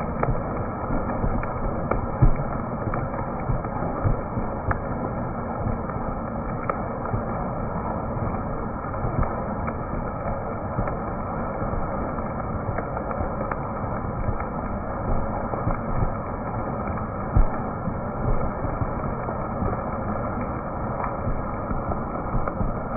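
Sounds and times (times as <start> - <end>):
raindrops ticking close by: 0.0 - 22.9.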